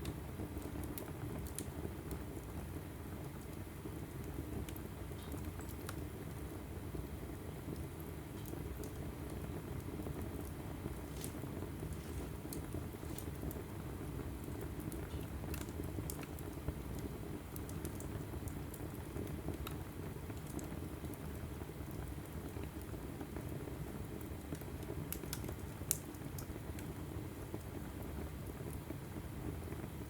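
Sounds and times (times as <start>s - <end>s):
fire crackles and pops: 0.0s - 30.0s
low rumble of flame: 0.0s - 30.0s.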